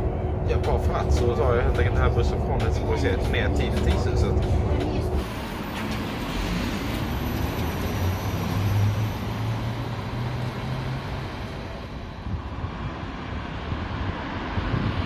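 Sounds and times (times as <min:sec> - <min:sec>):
electric bus motor hum: 0:00.0 - 0:14.9
road traffic noise: 0:00.0 - 0:15.0.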